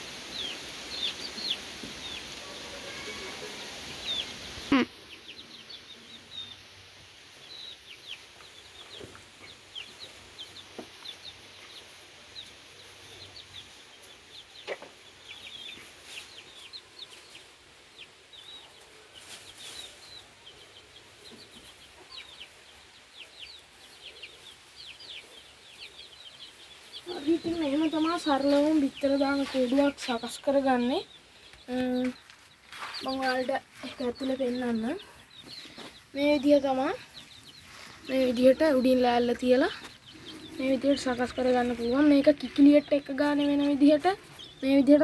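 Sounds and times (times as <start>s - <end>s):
chickens chirping: 0.0s - 45.0s.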